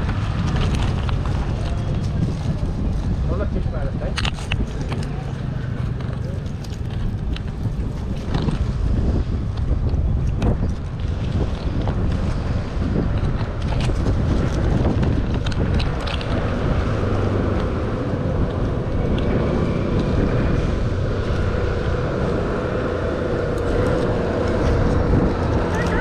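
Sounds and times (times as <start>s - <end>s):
road traffic rumble: 0.0s - 26.0s
vehicle engine: 0.0s - 26.0s
wind on microphone: 0.0s - 26.0s.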